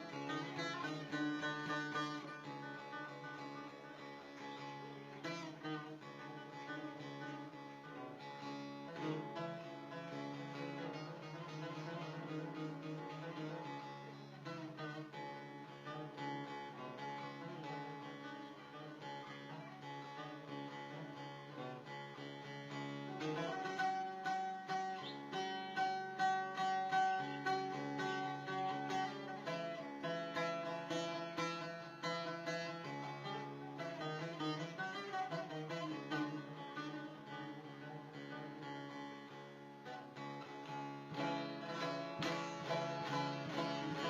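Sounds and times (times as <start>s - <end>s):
plucked string instrument music: 0.0s - 44.0s.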